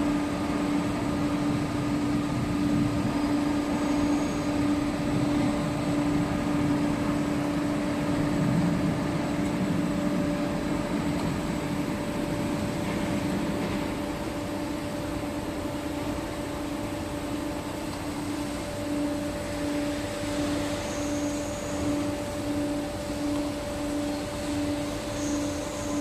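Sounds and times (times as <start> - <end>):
hydraulic unit humming: 0.0 - 26.0.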